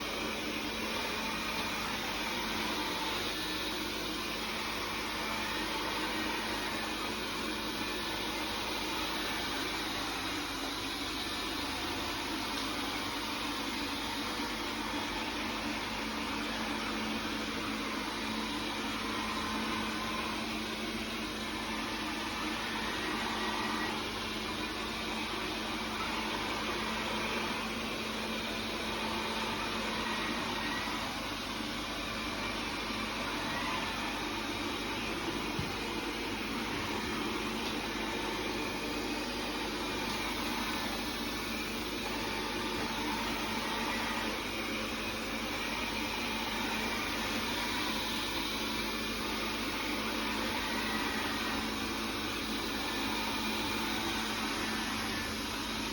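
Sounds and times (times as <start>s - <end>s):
robot vacuum whirring: 0.0s - 55.9s.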